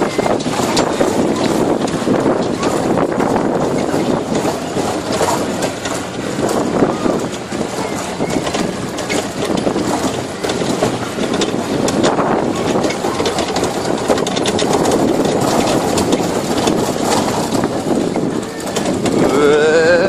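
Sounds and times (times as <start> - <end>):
carts rattling and clattering: 0.0 - 20.0
tractor engine running: 0.0 - 20.0.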